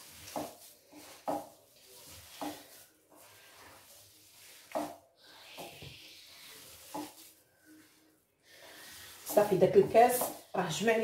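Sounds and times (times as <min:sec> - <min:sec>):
hands scraping dough on plate: 0:00.0 - 0:11.0.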